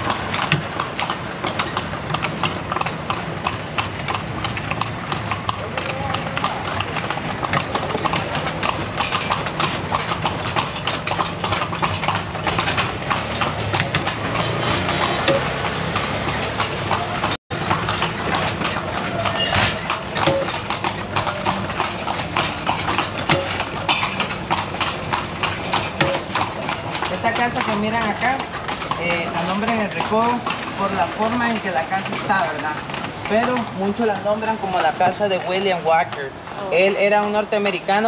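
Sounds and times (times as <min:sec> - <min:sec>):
horse hooves clip-clopping on pavement: 0:00.0 - 0:38.0.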